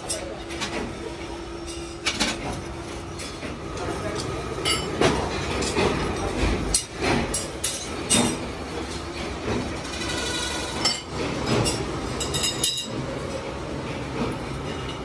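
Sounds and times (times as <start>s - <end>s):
machinery running: 0.6s - 15.0s.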